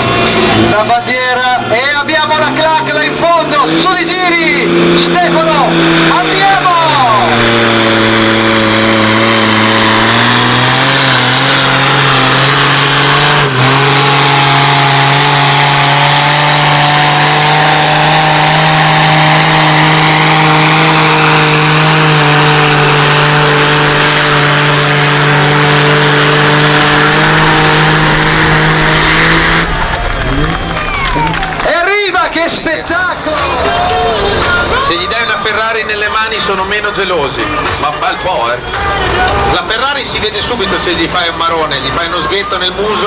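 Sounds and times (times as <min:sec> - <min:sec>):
tractor engine at high revs: 0:00.0 - 0:43.0.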